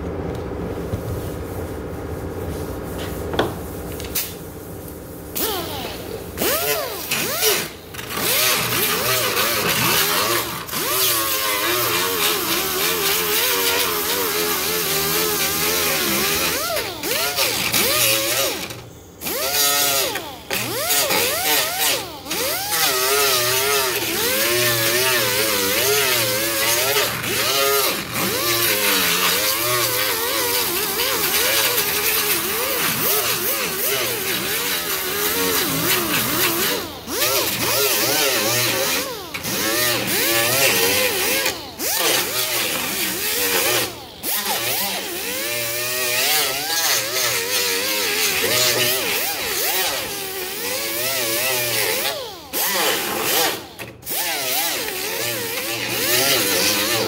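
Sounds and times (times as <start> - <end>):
angle grinder grinding fiberglass: 5.3 - 57.0.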